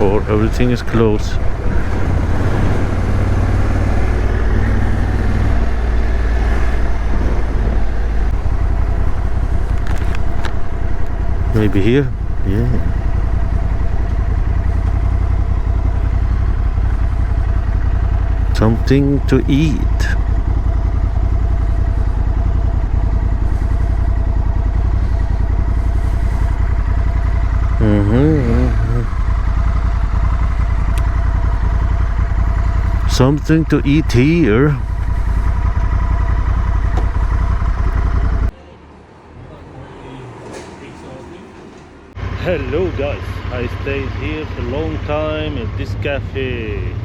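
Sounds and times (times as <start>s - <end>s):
low rumbling noise: 0.0s - 38.6s
motorcycle engine running: 0.0s - 38.6s, 42.2s - 47.0s.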